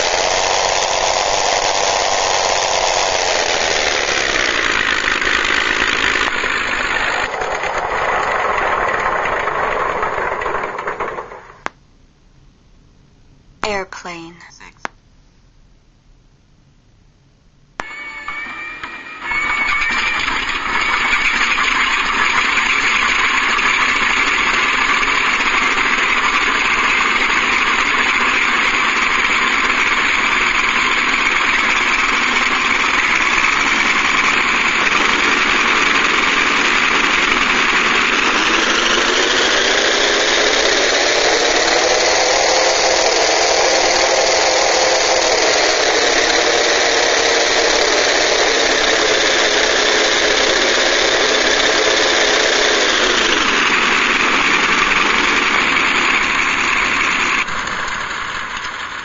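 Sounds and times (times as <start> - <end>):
recorded model engine sound: 0.0 - 11.8, 17.8 - 59.0.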